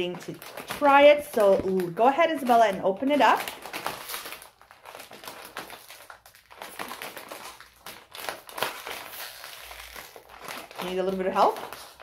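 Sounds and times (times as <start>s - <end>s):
chip bag crinkling: 0.0s - 12.0s.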